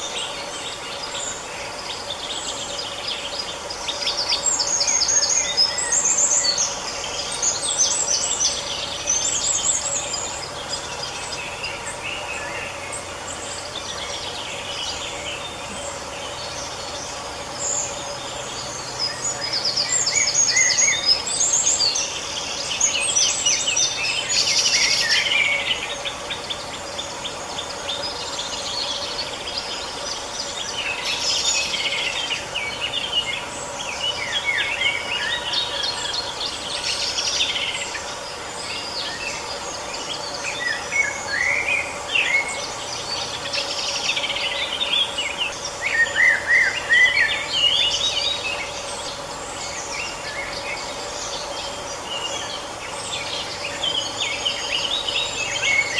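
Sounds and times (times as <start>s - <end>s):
faint steady hum: 0.0s - 55.9s
songbirds chirping and trilling: 0.0s - 55.9s.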